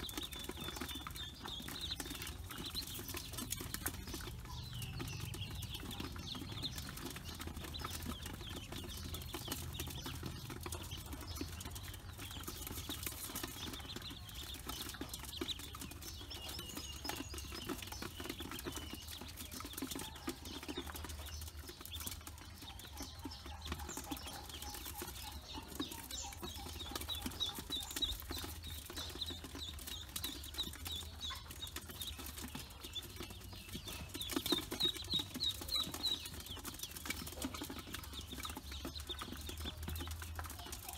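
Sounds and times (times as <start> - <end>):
bills pecking feed from metal basin: 0.0 - 40.9
ducklings peeping: 0.0 - 40.9.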